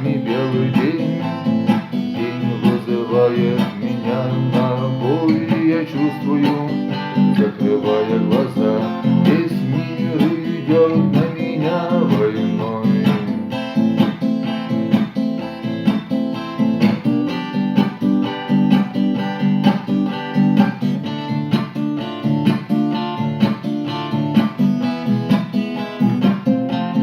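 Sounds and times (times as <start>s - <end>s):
strummed acoustic guitar: 0.0s - 27.0s.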